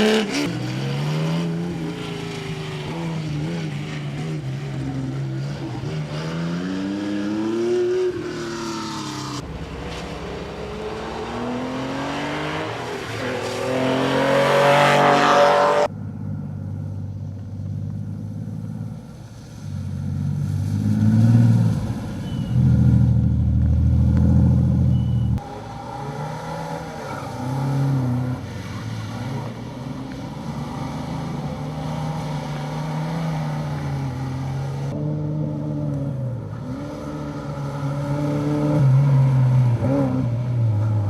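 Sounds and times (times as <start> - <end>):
car engines idling and revving: 0.0 - 41.0.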